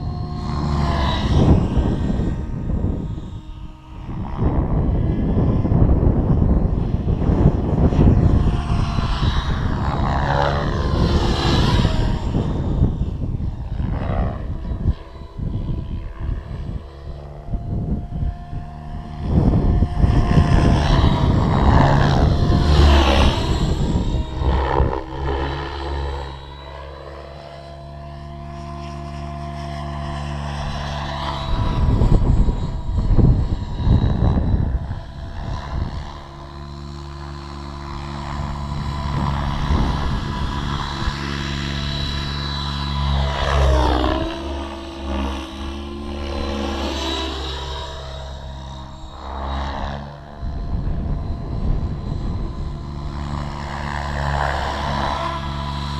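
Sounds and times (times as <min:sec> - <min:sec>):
model helicopter rotor whine: 0:00.0 - 0:55.9
wind buffeting microphone: 0:00.0 - 0:55.9.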